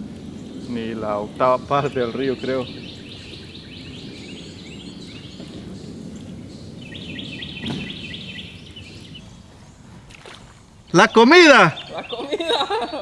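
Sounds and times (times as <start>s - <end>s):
low steady background rush: 0.0s - 13.0s
songbirds singing: 0.0s - 13.0s.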